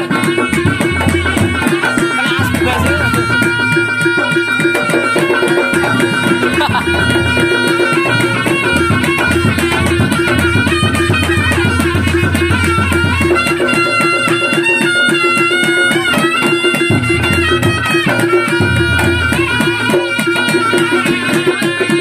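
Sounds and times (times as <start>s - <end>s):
fast drumming: 0.0s - 22.0s
gong and percussion strokes: 0.0s - 22.0s
wailing reed melody: 0.0s - 22.0s.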